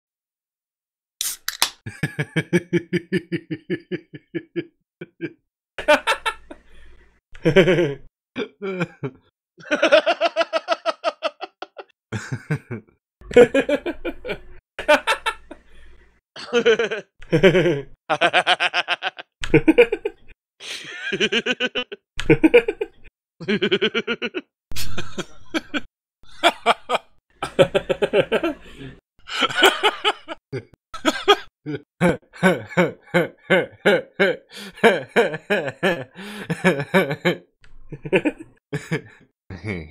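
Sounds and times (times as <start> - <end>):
people laughing: 1.9 - 6.7, 7.4 - 15.7, 16.4 - 39.8.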